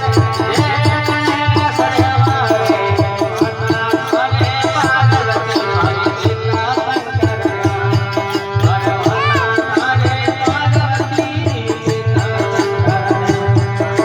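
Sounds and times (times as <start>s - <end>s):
fast hand-drum rhythm: 0.0s - 14.0s.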